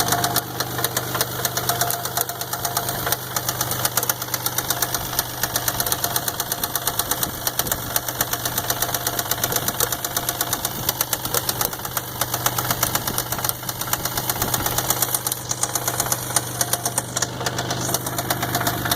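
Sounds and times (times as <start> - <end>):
engine knocking rapidly: 0.0 - 18.9.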